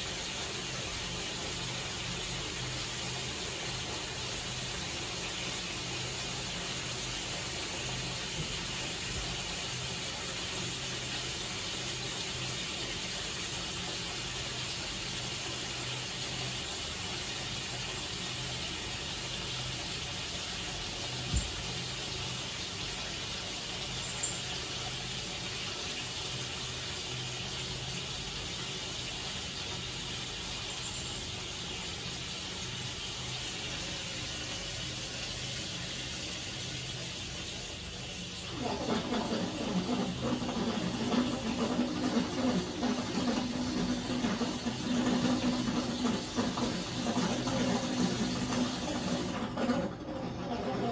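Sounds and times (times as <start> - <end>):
water filling a bathtub: 0.0 - 50.9.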